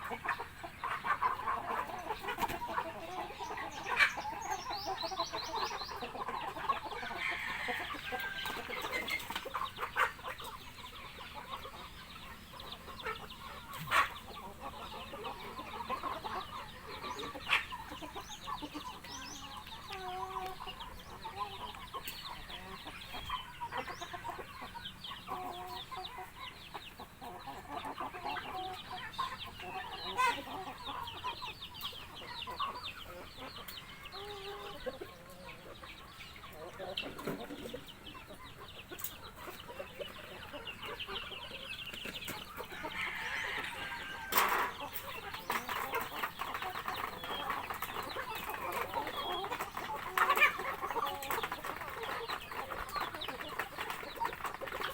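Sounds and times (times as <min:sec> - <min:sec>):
chickens clucking: 0:00.0 - 0:54.9.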